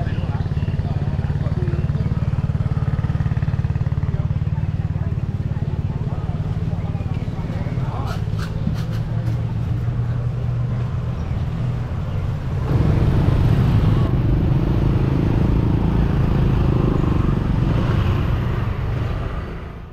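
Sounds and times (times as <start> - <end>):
motor scooters passing: 0.0 - 19.9
street traffic: 0.0 - 19.9.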